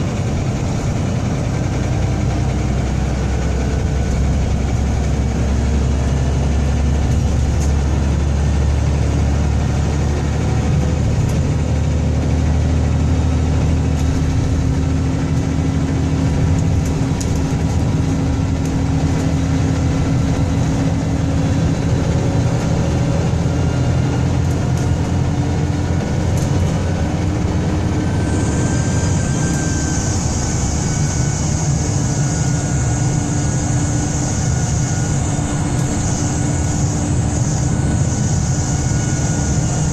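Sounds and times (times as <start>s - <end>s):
bus engine droning: 0.0s - 39.9s
differential whine: 0.0s - 39.9s.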